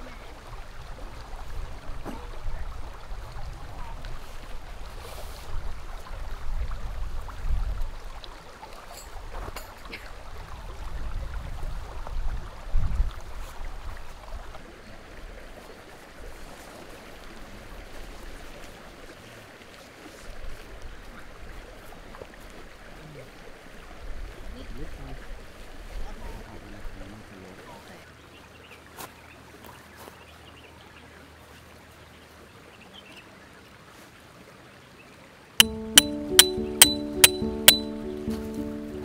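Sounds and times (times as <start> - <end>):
stream running: 0.0 - 39.0.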